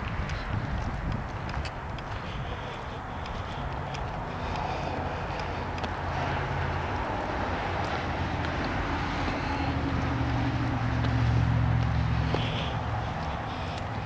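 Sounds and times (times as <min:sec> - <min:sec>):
road traffic rumble: 0:00.0 - 0:14.0
vehicle low drone: 0:00.0 - 0:14.0.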